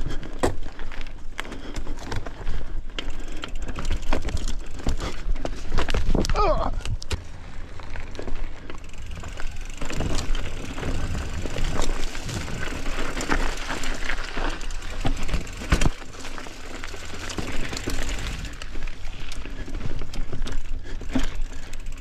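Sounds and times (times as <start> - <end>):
bike rattling and knocking: 0.0 - 22.0
bike tyres on dirt and rock: 0.0 - 22.0.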